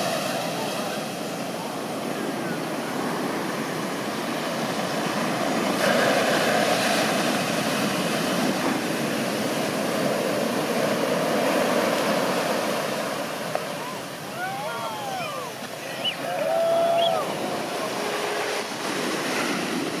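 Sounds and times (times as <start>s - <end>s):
ocean wave crashing: 0.0s - 20.0s
whitewater rushing: 0.0s - 20.0s.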